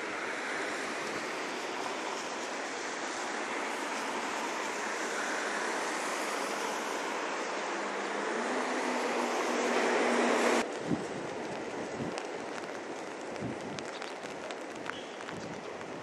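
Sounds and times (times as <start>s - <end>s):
rain: 0.0s - 16.0s
wet road noise: 0.0s - 16.0s.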